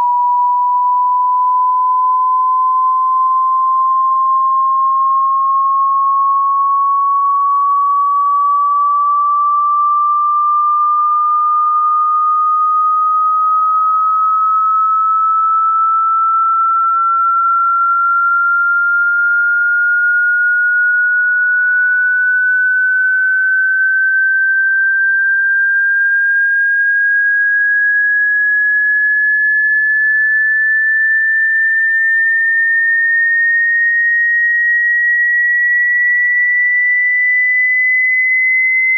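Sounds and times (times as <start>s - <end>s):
rising sine test tone: 0.0s - 38.9s.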